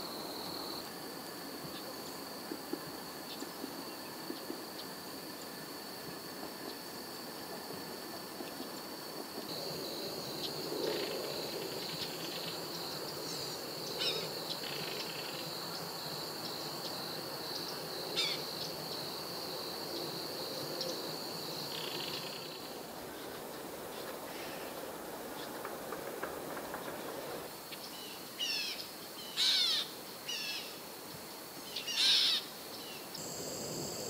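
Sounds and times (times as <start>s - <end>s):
high-pitched insect trill: 3.0s - 23.3s, 26.9s - 34.0s.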